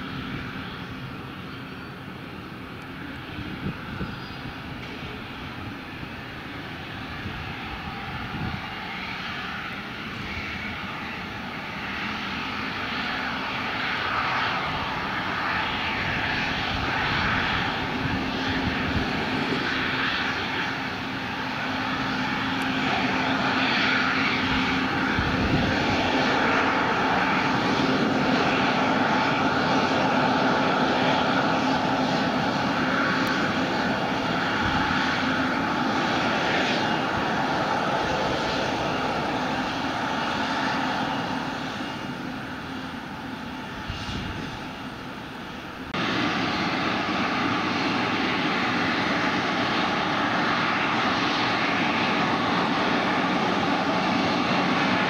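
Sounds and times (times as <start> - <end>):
airliner engines running: 0.0 - 55.0.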